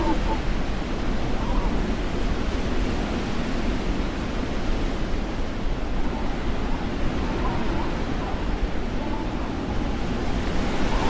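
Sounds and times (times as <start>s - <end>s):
strong snowstorm wind: 0.0s - 11.0s.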